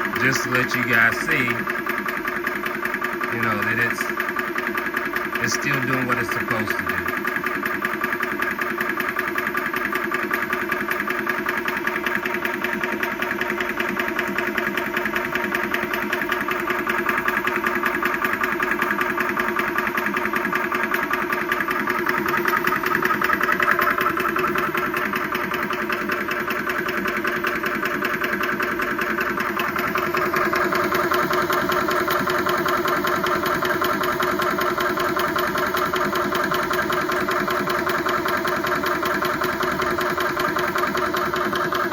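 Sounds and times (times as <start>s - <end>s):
air compressor running: 0.0s - 41.9s.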